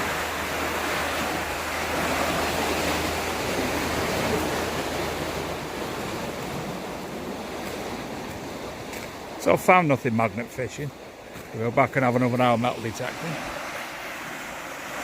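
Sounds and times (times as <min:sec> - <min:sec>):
water rushing through a lock: 0:00.0 - 0:15.0.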